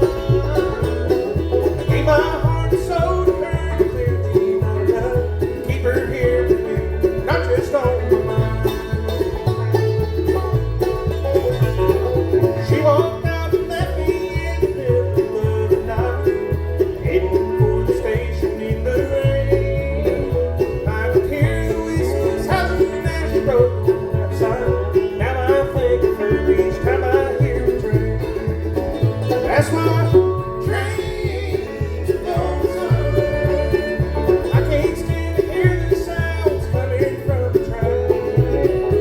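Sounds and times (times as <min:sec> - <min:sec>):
banjo rolls: 0:00.0 - 0:39.0
guitar: 0:00.0 - 0:39.0
walking bass line: 0:00.0 - 0:39.0.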